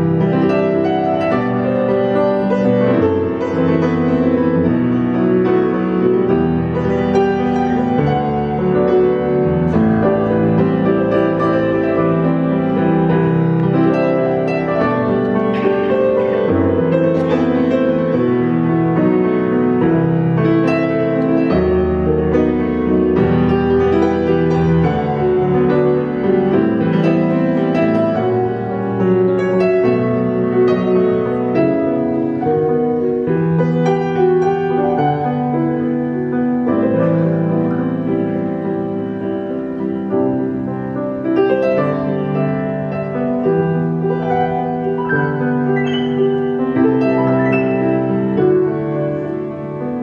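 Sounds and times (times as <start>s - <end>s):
solo piano playing: 0.0s - 50.0s.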